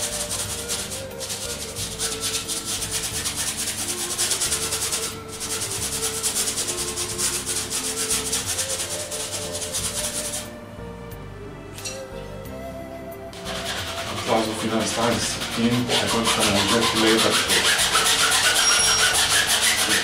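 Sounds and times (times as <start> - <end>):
bristle brush scrubbing canvas: 0.0 - 10.5, 13.4 - 20.0.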